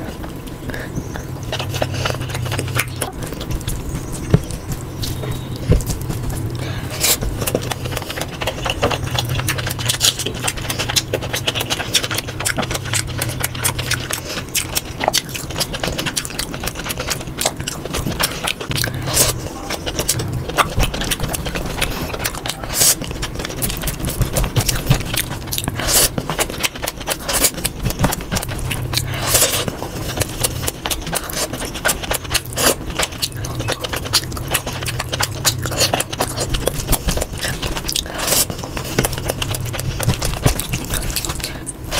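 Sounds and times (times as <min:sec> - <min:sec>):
wet chewing: 0:00.0 - 0:41.9
lip smacks and clicks: 0:00.2 - 0:06.4, 0:07.1 - 0:41.9.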